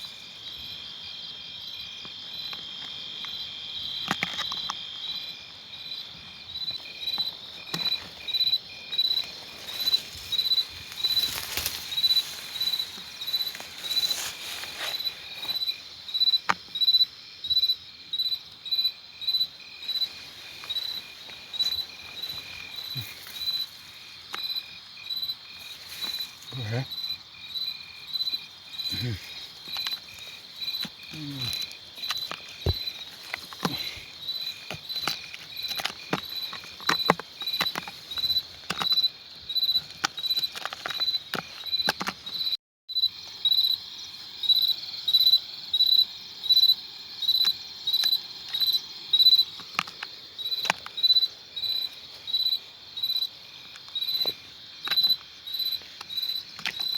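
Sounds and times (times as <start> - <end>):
insect chirping: 0.0 - 56.9.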